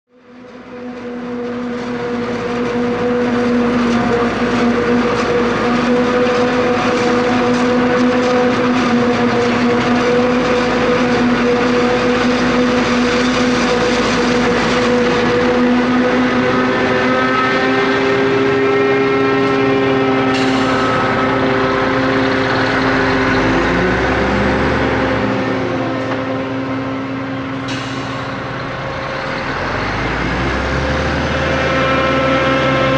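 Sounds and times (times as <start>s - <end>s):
heavy vehicle engine humming: 0.1s - 32.9s
rising whine: 0.2s - 32.9s.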